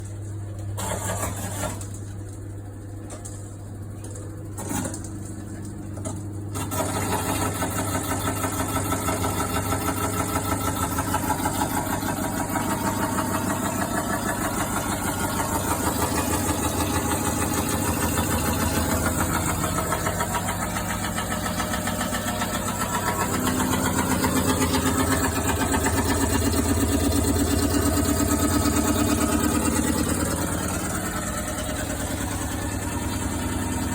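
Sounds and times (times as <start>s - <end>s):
washing machine humming: 0.0s - 33.9s.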